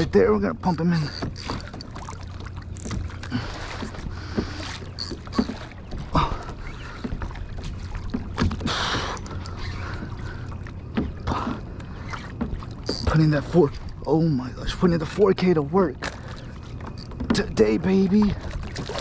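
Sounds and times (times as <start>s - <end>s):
water splashing: 0.0s - 19.0s.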